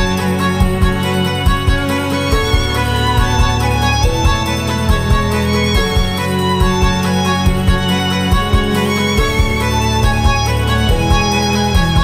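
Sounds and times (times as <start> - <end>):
instrumental music with low beat: 0.0 - 12.0.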